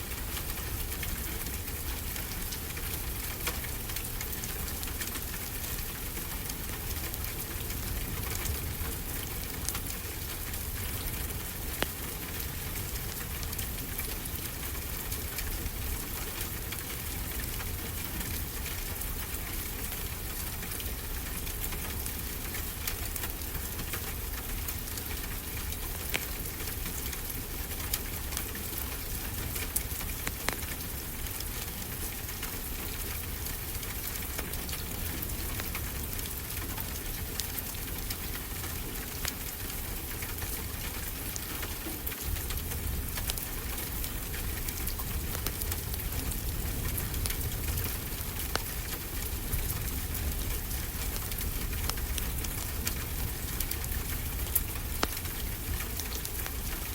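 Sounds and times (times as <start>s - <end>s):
wood fire crackling and popping: 0.1s - 19.4s, 21.4s - 56.9s.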